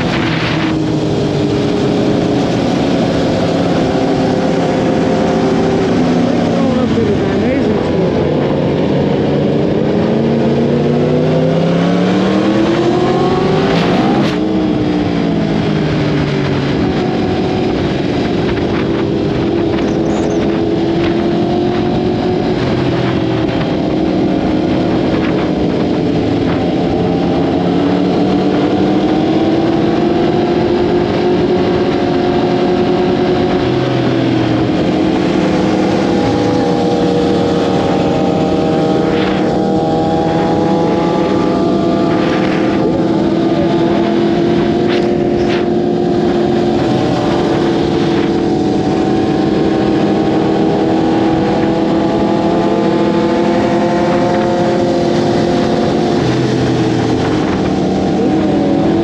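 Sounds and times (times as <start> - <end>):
sport bike engine revving: 0.0 - 59.0.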